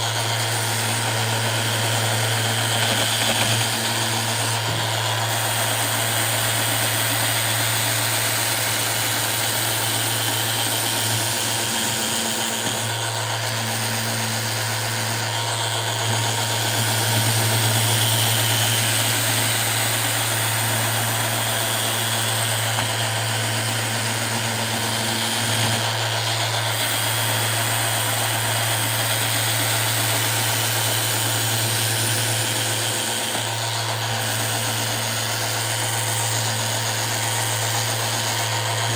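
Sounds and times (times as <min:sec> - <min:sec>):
electric sander running: 0:00.0 - 0:38.9.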